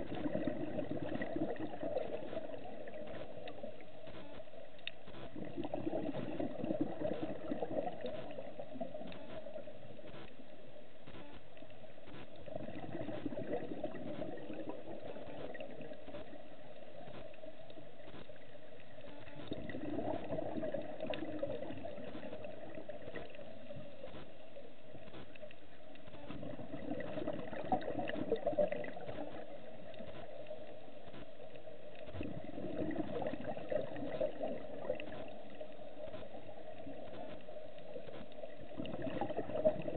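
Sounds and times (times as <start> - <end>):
underwater exhaust bubbles: 0.0 - 39.9.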